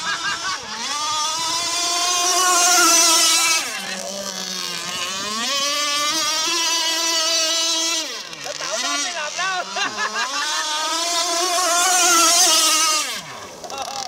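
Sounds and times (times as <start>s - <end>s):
model boat motor high whine: 0.0s - 14.0s.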